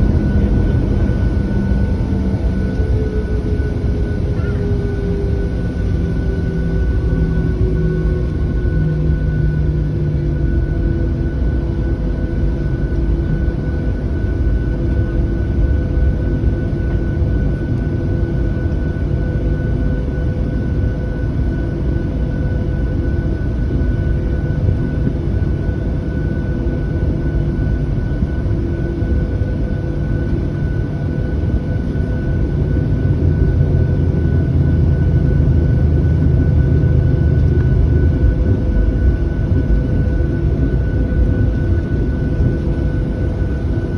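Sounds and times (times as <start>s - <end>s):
airplane cabin engine rumble and hiss: 0.0s - 43.9s
thin constant whine: 0.0s - 43.9s.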